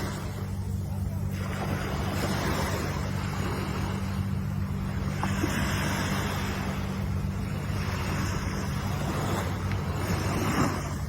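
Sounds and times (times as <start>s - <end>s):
low rumble: 0.0s - 11.0s
ocean surf hissing: 0.0s - 11.0s.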